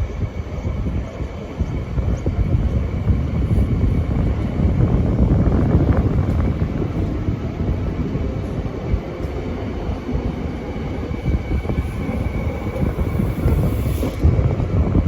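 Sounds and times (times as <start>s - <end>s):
tram rumbling on track: 0.0s - 15.0s.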